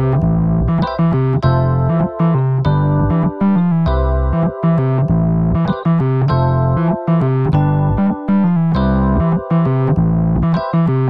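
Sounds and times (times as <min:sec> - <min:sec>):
electric piano chords over bass: 0:00.0 - 0:11.0.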